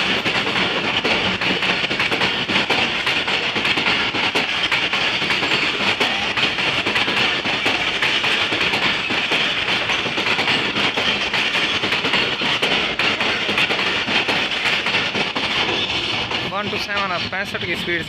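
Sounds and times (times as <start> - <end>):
train coaches rushing past: 0.0 - 18.0
wheels clicking over rail joints: 0.0 - 18.0.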